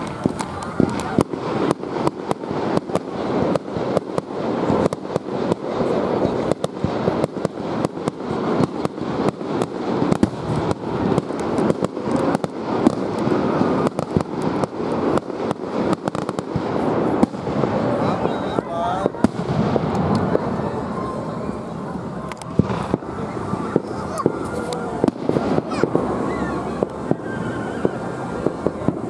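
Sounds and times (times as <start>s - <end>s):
fireworks barrage: 0.0s - 29.0s.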